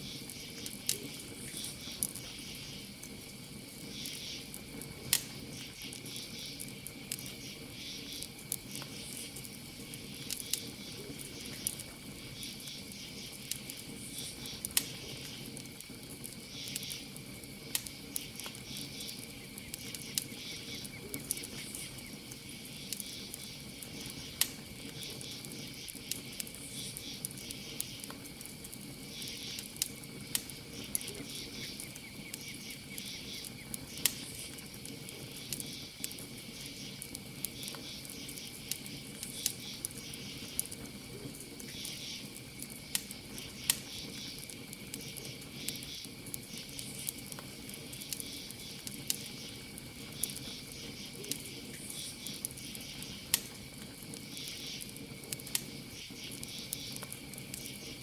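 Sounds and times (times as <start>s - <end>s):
campfire crackling and popping: 0.0s - 58.0s
insects chirping: 0.0s - 58.0s.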